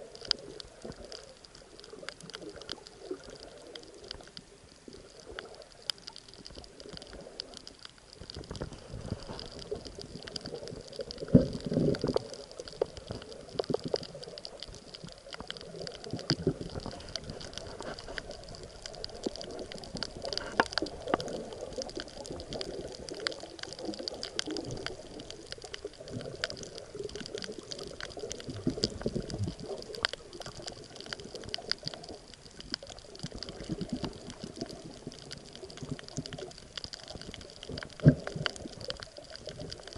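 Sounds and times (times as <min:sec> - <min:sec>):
water rushing and bubbling: 0:00.0 - 0:39.9.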